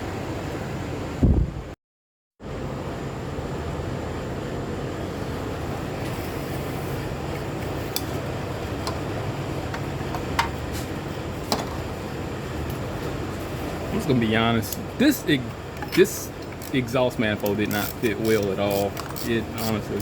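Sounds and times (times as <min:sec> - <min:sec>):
mechanical background hum: 0:00.0 - 0:01.8, 0:02.4 - 0:20.0.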